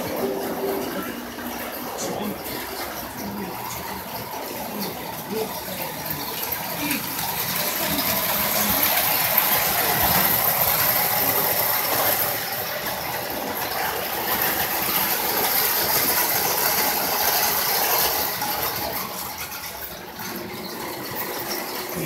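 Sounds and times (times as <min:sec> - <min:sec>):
toy train motor whirring: 0:00.0 - 0:22.0.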